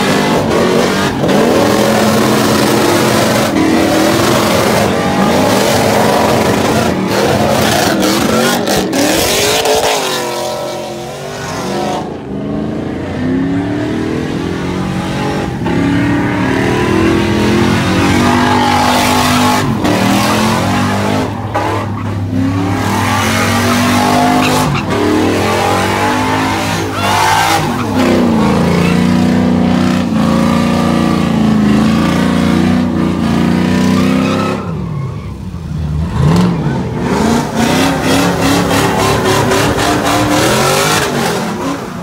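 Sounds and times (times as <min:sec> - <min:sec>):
tyres spinning and squealing: 0:00.0 - 0:12.3, 0:13.9 - 0:42.0
car engine revving hard: 0:00.0 - 0:34.9, 0:35.6 - 0:42.0.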